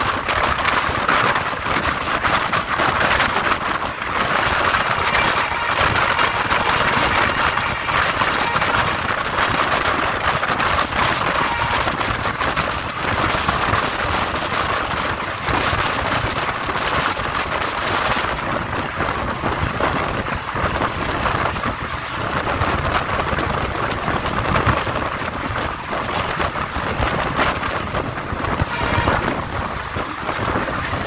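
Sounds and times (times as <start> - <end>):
air rushing past train: 0.0 - 31.0
train wheels rumbling on rails: 0.0 - 31.0.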